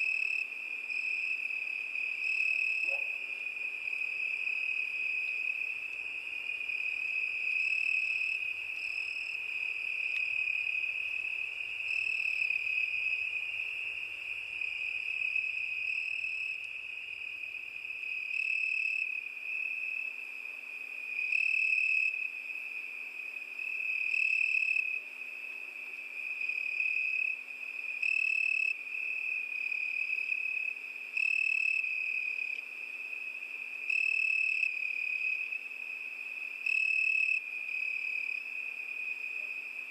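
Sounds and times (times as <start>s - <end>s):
crickets trilling: 0.0s - 39.9s
louder cricket chirping: 0.0s - 39.9s.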